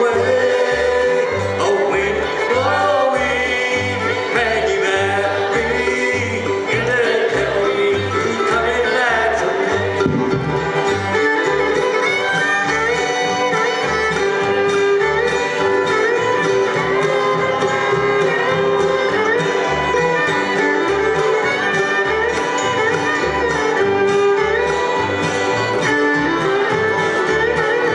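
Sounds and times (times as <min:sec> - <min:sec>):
bowed fiddle: 0:00.0 - 0:27.9
mandolin: 0:00.0 - 0:27.9
strummed acoustic guitars: 0:00.0 - 0:27.9
upright bass notes: 0:00.0 - 0:27.9.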